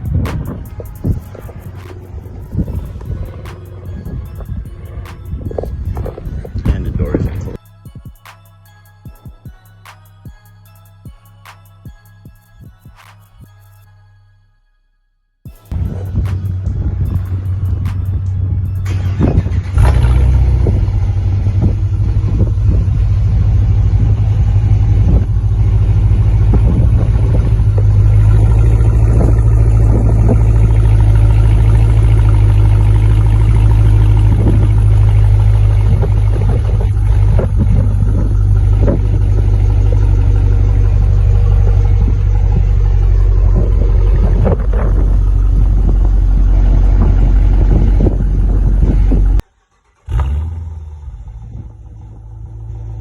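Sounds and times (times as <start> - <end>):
car engine idling with deep rumble: 0.0 - 8.0, 15.5 - 53.0.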